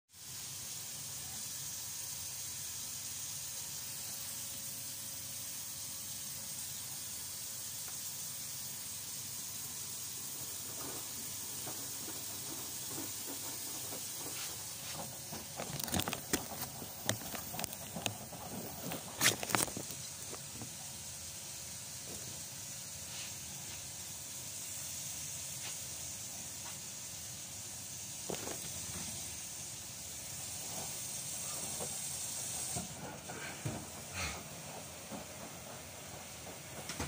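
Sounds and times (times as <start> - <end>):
water spraying into washing machine: 0.1 - 37.0.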